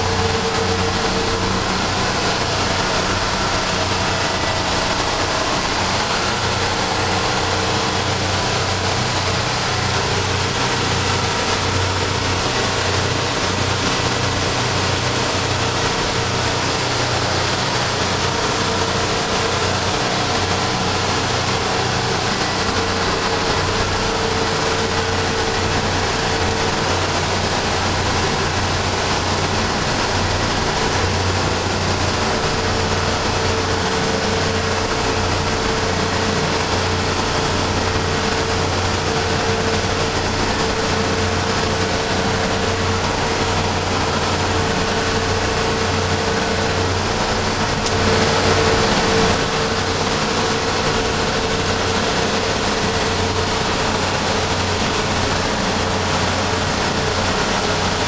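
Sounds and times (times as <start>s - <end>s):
boat engine humming: 0.0s - 58.0s
rushing water: 0.0s - 58.0s.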